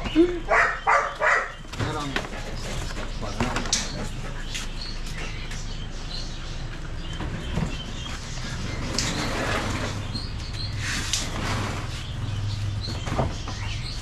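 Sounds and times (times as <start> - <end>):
parrots chirping: 0.0 - 14.0.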